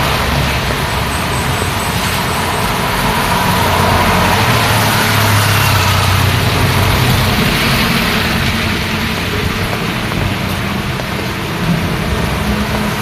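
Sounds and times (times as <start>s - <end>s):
heavy vehicle engine humming: 0.0s - 13.0s
passing traffic: 0.0s - 13.0s
rain: 0.0s - 13.0s.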